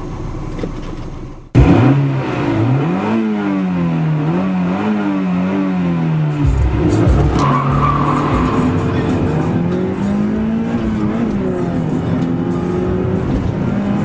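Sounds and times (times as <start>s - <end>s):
car engine revving hard: 1.5s - 14.0s.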